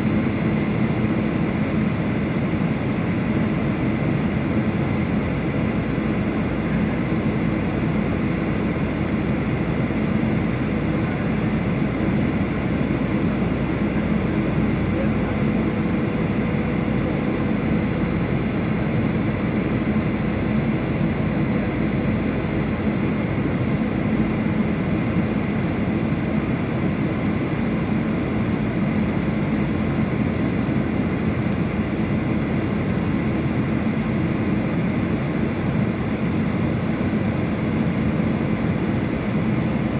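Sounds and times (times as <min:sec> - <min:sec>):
airliner cabin engine and airflow noise: 0:00.0 - 0:39.9.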